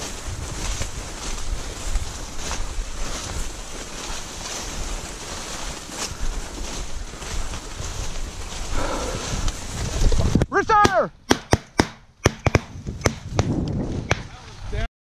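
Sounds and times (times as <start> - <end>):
wind buffeting microphone: 0.0 - 11.3, 12.1 - 14.9.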